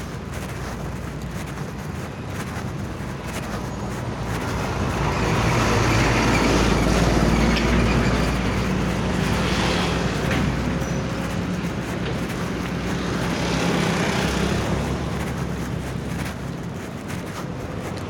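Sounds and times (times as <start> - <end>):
traffic noise: 0.0 - 18.0.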